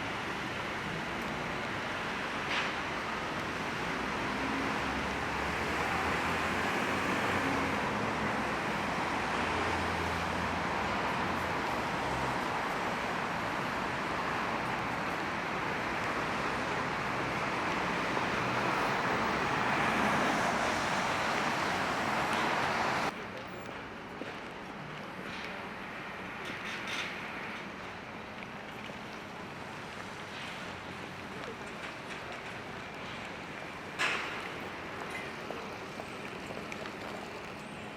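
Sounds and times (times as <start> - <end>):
street traffic hiss: 0.0 - 37.9.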